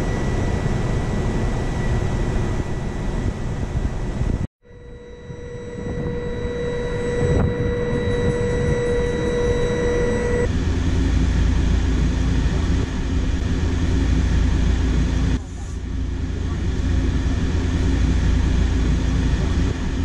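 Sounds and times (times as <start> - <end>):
electric train high whine: 0.0 - 20.0
locomotive deep hum: 0.0 - 20.0.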